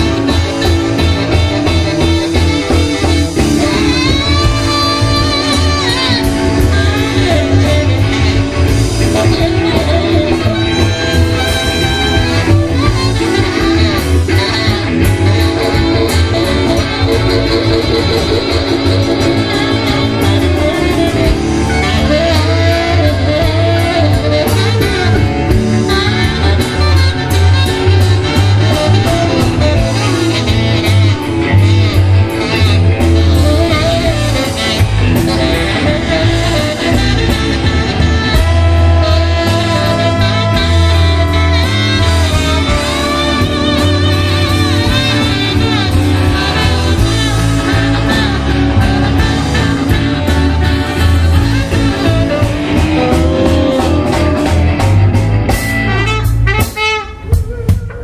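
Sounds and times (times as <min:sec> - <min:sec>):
blues-rock band jamming: 0:00.0 - 0:58.0
driving bass line: 0:00.0 - 0:58.0
saxophone: 0:00.0 - 0:58.0
trombone: 0:00.0 - 0:58.0
trumpet: 0:00.0 - 0:58.0.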